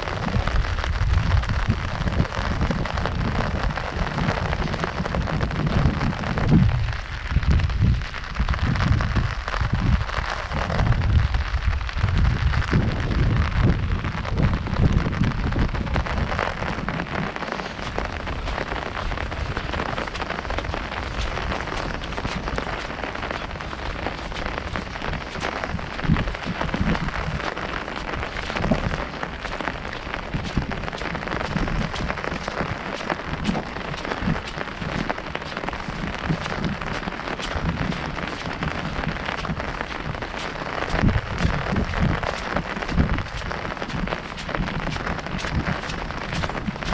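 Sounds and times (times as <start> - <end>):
heavy rain on an umbrella: 0.0 - 46.9.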